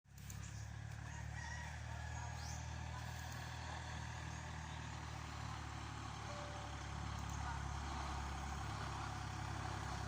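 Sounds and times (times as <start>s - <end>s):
tractor diesel engine idling: 0.1s - 10.0s.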